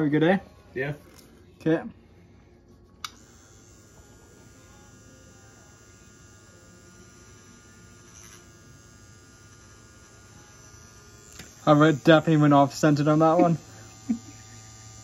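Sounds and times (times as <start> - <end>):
tattoo pen buzzing: 2.9 - 15.0.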